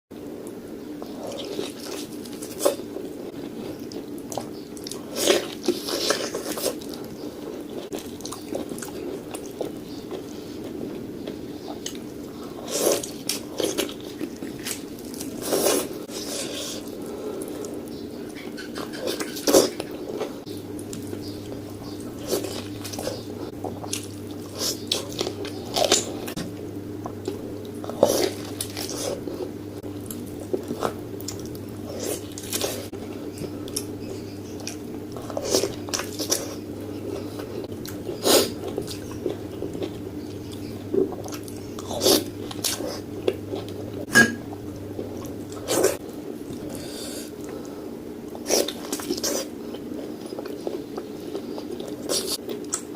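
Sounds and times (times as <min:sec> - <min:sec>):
steady low hum: 0:00.1 - 0:52.9
person chewing ribs: 0:01.0 - 0:52.9.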